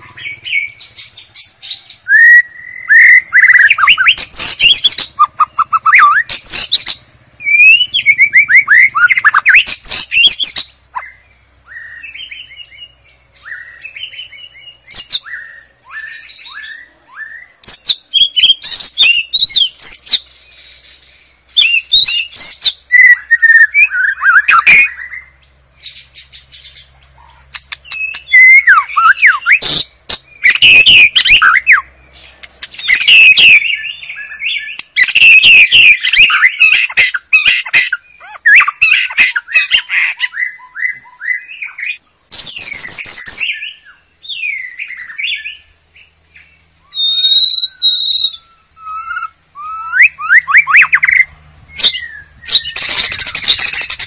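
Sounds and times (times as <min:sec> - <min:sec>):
bird singing whistles and trills: 0:00.0 - 0:54.0.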